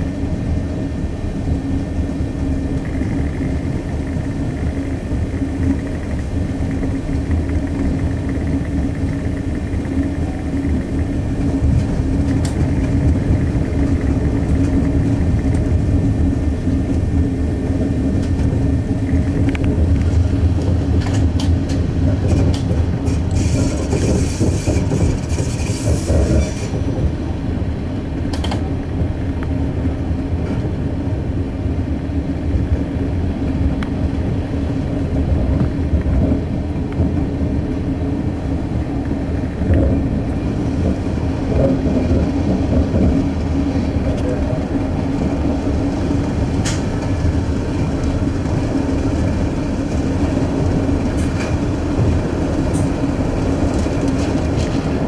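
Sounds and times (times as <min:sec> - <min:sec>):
diesel engine drone: 0:00.0 - 0:55.0
wheels rumbling on rails: 0:00.0 - 0:55.0.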